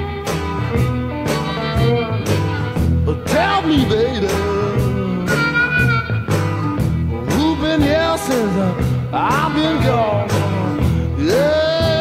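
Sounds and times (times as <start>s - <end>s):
acoustic blues guitar: 0.0s - 12.0s.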